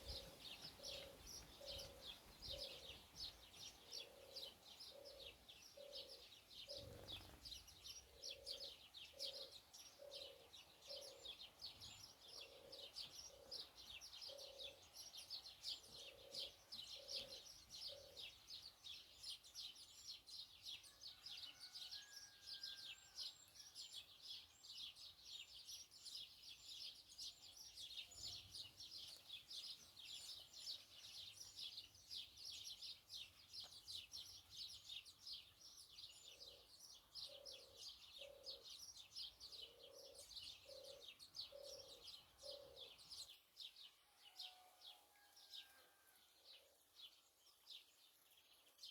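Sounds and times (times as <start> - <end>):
small birds twittering: 0.0 - 44.6.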